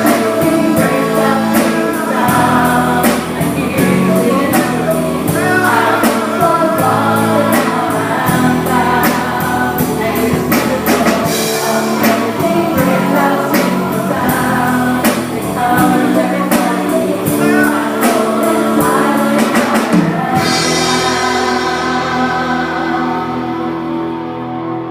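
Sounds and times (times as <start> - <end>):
held chords: 0.0 - 24.9
people singing: 0.0 - 24.9.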